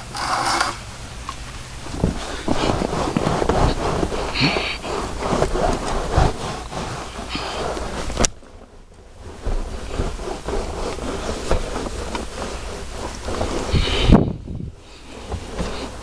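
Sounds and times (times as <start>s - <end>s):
cloth rubbing on carpet: 1.8s - 16.0s.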